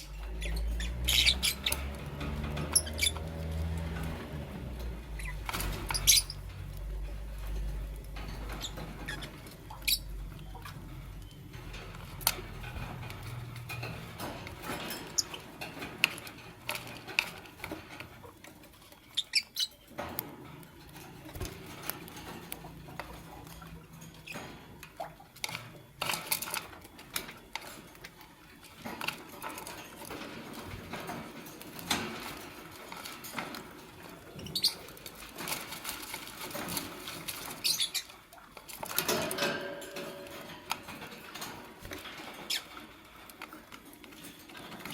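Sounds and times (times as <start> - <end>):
birds tapping and scratching: 0.0 - 44.9.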